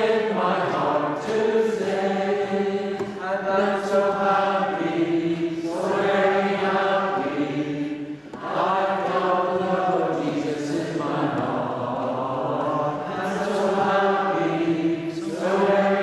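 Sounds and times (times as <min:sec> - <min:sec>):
congregation singing: 0:00.0 - 0:16.0.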